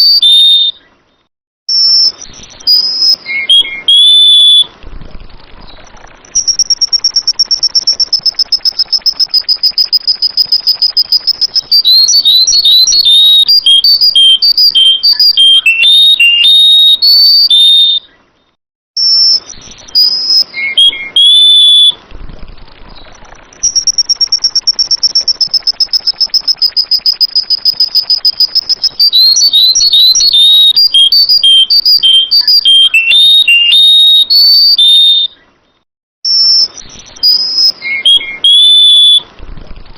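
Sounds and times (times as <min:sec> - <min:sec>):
bulbul song recording: 0:00.0 - 0:39.9.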